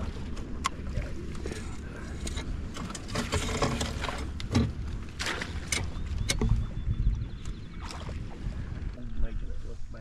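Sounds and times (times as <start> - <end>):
low wind rumble: 0.0 - 10.0.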